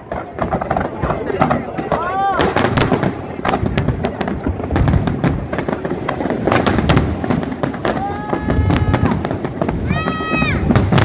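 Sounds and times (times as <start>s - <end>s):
firework shell bursts and bangs: 0.0s - 11.0s.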